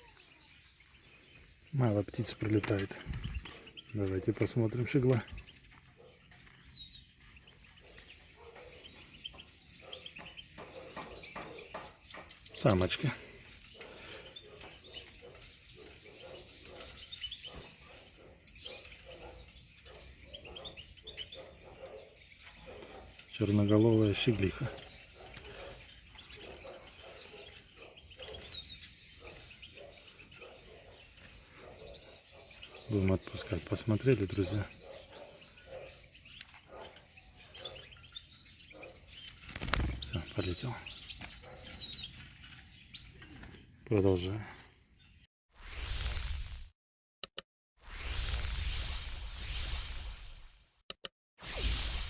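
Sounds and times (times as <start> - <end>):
small birds chirping: 0.0 - 45.3.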